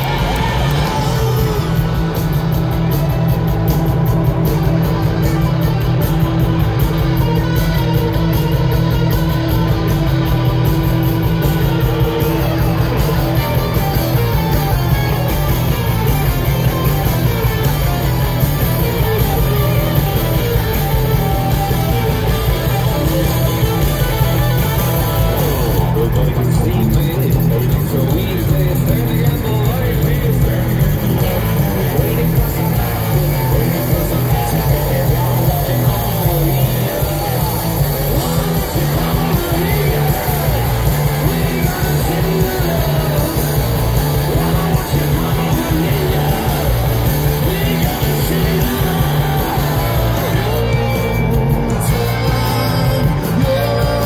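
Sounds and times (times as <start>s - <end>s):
drums: 0.0s - 54.0s
electric guitar: 0.0s - 54.0s.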